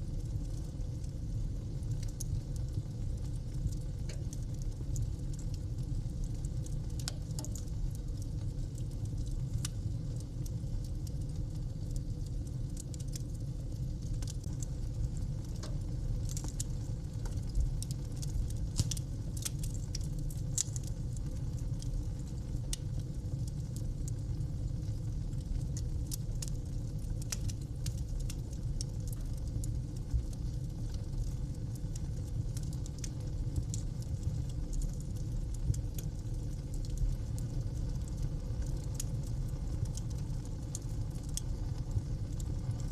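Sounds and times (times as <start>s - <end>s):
low fire rumble: 0.0s - 42.9s
wood fire crackling and snapping: 0.0s - 42.9s.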